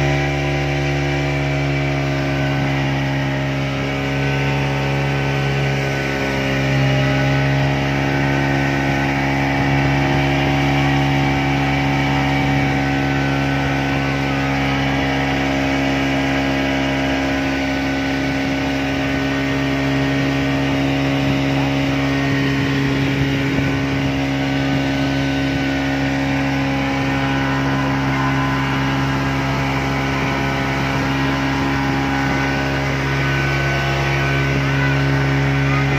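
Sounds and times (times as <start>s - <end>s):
speedboat engine running: 0.0s - 35.9s
water rushing past hull: 0.0s - 35.9s.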